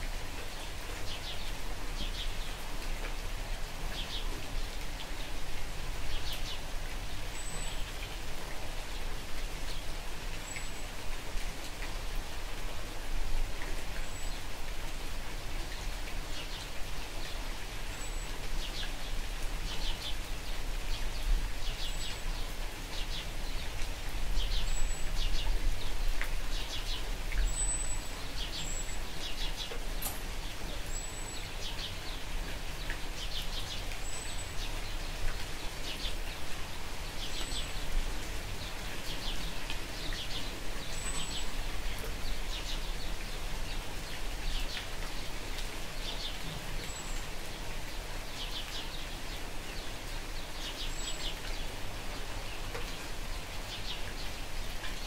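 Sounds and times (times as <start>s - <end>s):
light rain: 0.0s - 55.0s.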